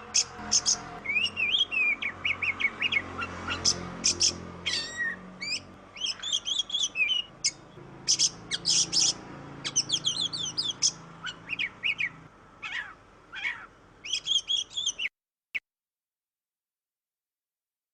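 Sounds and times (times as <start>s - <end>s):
bird singing whistles and trills: 0.1s - 12.8s, 13.4s - 15.1s.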